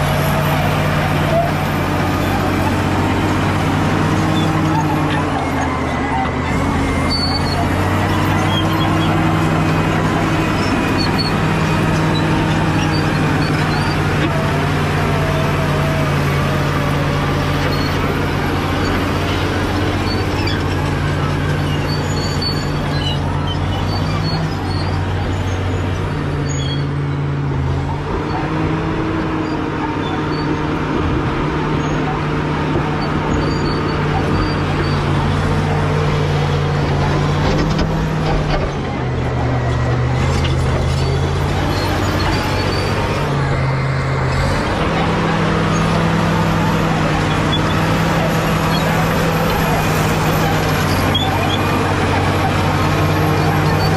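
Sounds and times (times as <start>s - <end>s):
bulldozer diesel engine under load: 0.0s - 53.9s.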